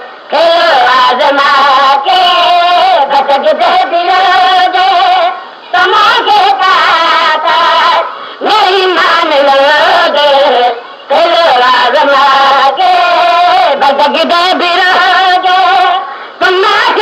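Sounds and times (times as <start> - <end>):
person singing devotional recitation: 0.0 - 17.0.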